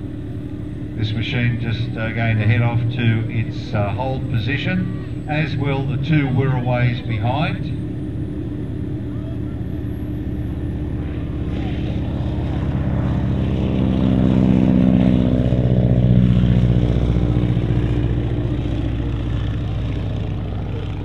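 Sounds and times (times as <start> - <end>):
biplane engine at takeoff: 0.0 - 21.0.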